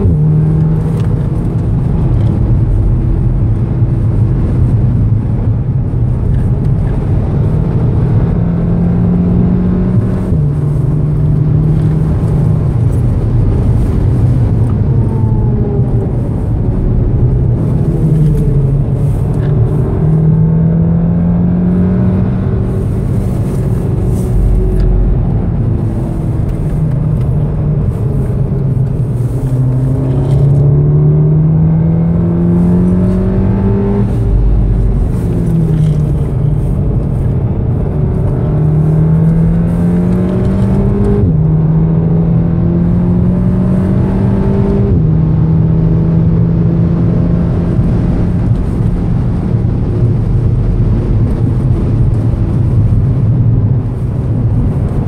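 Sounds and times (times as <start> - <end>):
car engine under full throttle: 0.0 - 55.0
road and tyre rumble: 0.0 - 55.0.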